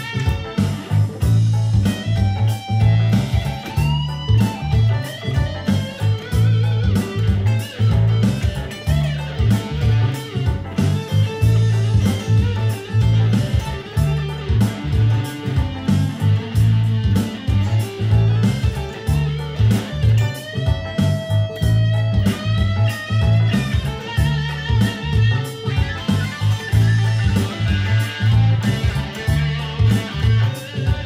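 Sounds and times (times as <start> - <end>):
electric guitar funk riff: 0.0 - 31.0.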